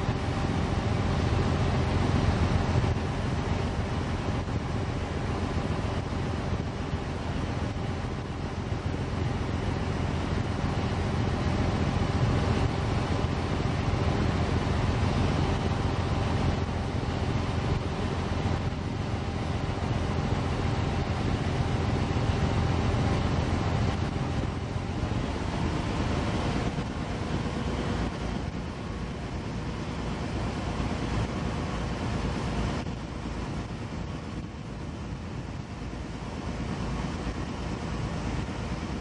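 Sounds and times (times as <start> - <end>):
boat engine rumble: 0.0 - 39.0
faint hum tones: 0.0 - 39.0.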